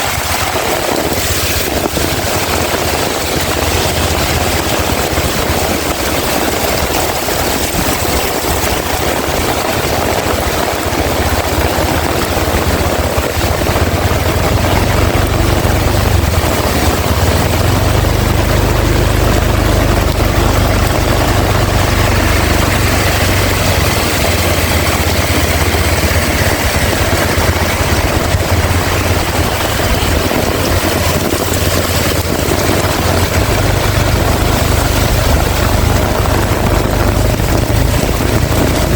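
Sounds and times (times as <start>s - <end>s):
heavy rain pouring: 0.0s - 38.9s
wind gusting over microphone: 0.0s - 38.9s.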